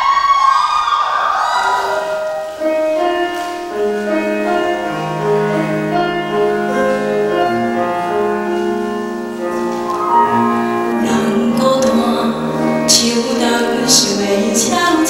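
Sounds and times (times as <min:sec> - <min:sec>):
slow piano chords: 0:01.4 - 0:15.0.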